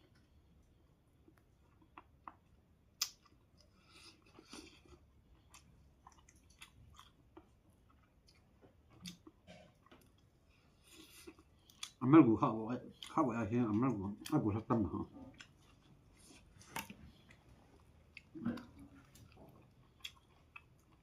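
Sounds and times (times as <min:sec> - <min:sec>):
person chewing food: 0:00.0 - 0:12.0, 0:12.8 - 0:21.0.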